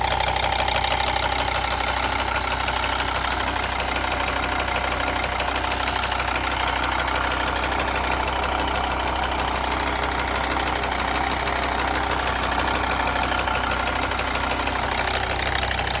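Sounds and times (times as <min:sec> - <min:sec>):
diesel engine idling with ticking: 0:00.0 - 0:16.0
engine banging: 0:00.0 - 0:16.0.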